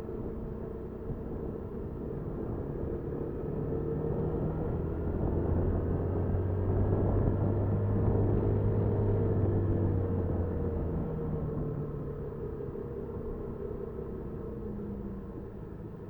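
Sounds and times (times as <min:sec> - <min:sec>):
road and wind rumble: 0:00.0 - 0:16.0.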